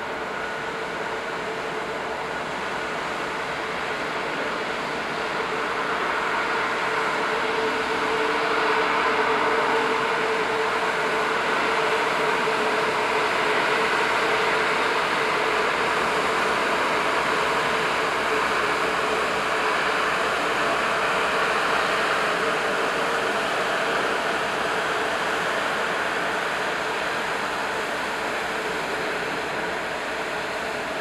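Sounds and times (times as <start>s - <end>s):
ferry engine drone: 0.0s - 31.0s.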